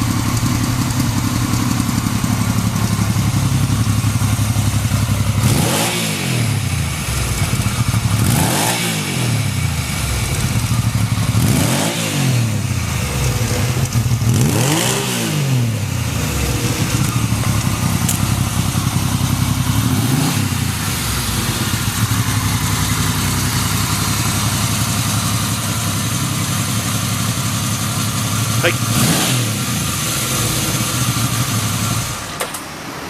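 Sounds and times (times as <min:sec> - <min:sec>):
motorcycle engine idling: 0:00.0 - 0:32.9
engine throttle blips: 0:00.0 - 0:33.0.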